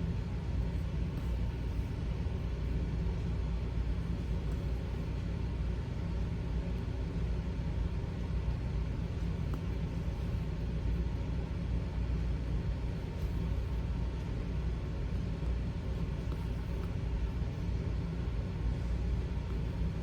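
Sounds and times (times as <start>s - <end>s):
steady low rumble with hiss: 0.0s - 20.0s.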